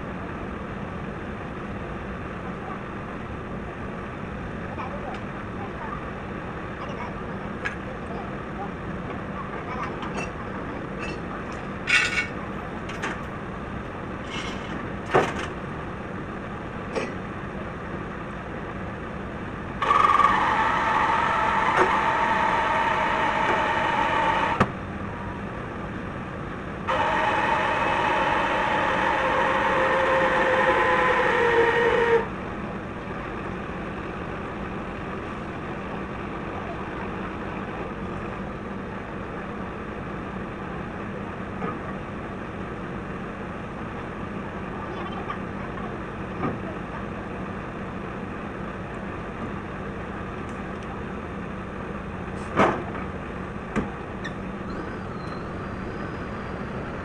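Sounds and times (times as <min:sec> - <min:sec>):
diesel engine running: 0:00.0 - 0:57.0
machinery whine under load: 0:00.0 - 0:57.0.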